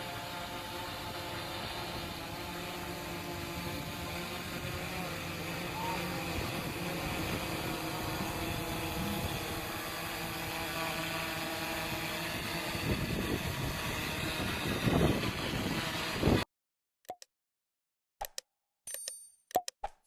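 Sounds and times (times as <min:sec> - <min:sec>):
drone propellers buzzing: 0:00.0 - 0:16.4.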